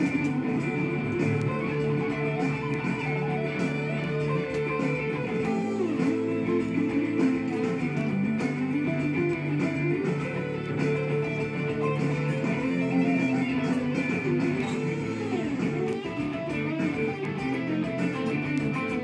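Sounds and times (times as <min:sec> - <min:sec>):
backing track chords: 0:00.0 - 0:19.0
electric guitar lead: 0:00.0 - 0:19.0.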